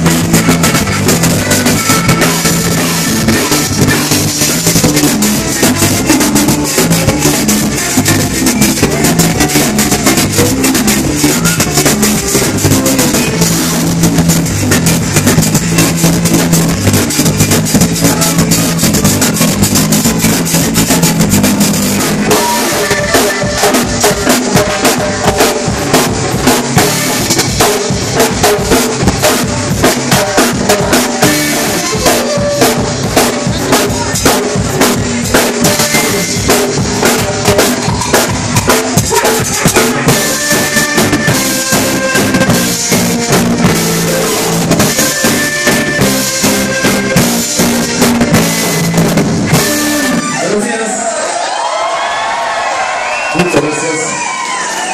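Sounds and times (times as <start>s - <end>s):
trombone: 0.0s - 34.2s, 35.4s - 37.9s, 38.5s - 50.4s
drum kit beat: 0.0s - 50.7s
electric guitar: 0.0s - 50.8s
live band playing: 0.0s - 54.9s.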